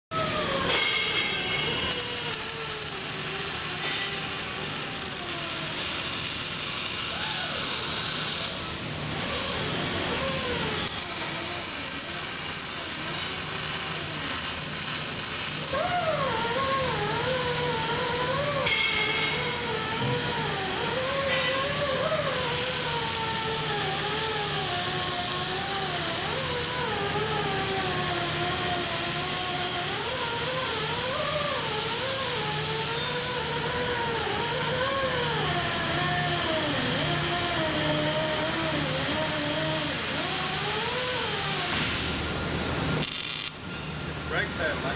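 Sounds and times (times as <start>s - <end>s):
welding hum and hiss: 0.2s - 44.9s.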